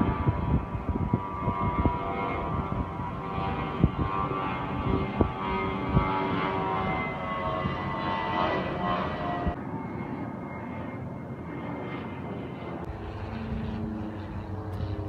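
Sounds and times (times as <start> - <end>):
airliner engine whine: 0.0 - 15.0.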